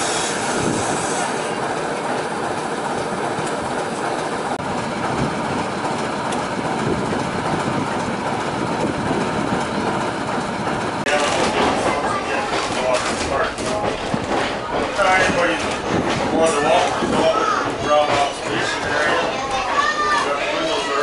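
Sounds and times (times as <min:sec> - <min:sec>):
diesel locomotive idling: 0:00.0 - 0:21.0.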